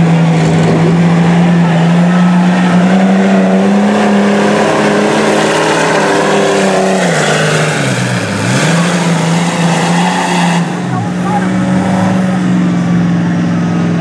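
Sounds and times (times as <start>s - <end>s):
rush of mud and water: 0.0s - 14.0s
truck engine revving: 0.0s - 14.0s.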